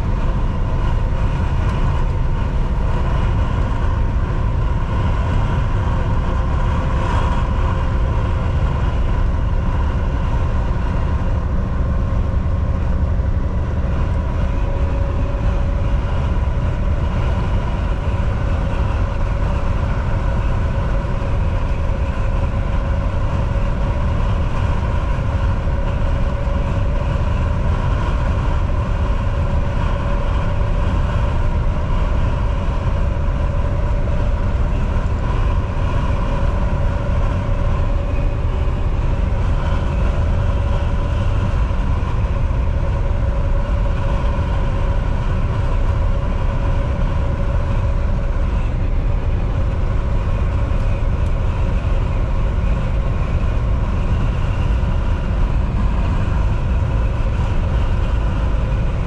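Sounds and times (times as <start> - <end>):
steady whine: 0.0 - 59.0
truck engine and road rumble: 0.0 - 59.0.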